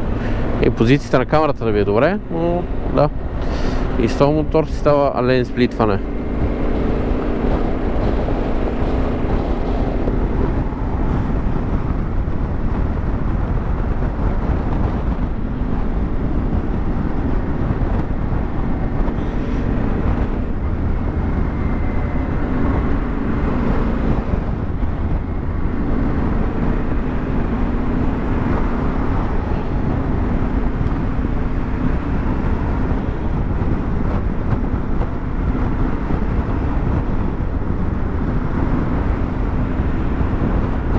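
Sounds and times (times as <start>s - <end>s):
wind and road noise: 0.0s - 40.9s
motorcycle engine running: 2.2s - 40.9s.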